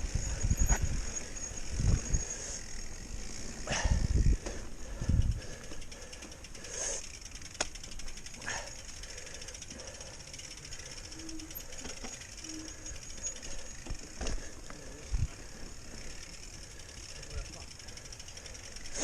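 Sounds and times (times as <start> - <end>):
bike rattling over rough ground: 0.0 - 19.0.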